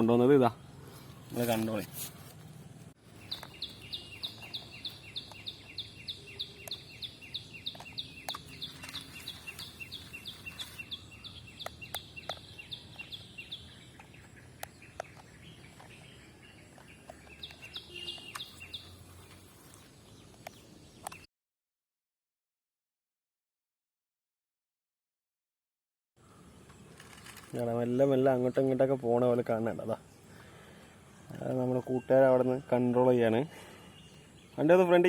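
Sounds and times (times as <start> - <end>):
bird chirping: 0.0 - 21.3, 26.2 - 35.0.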